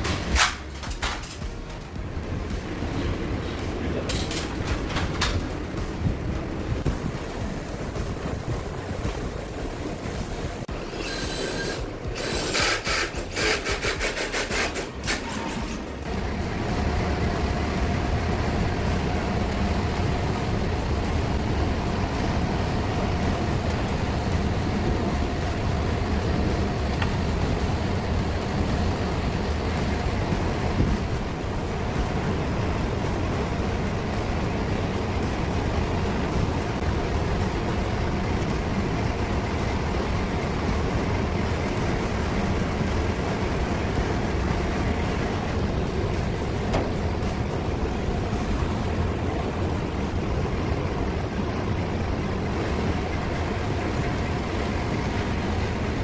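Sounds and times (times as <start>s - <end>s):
ventilation fan droning: 0.0s - 56.0s.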